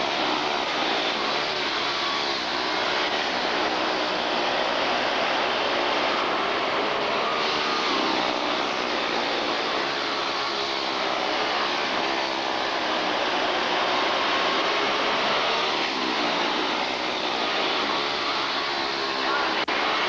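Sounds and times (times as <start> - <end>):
small race car engines buzzing: 0.0 - 20.0.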